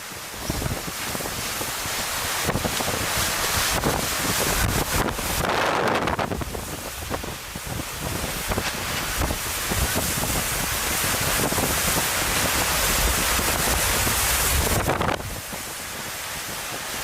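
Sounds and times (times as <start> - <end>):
gusts buffeting microphone: 0.0 - 17.0
strong wind and rain: 0.0 - 17.0.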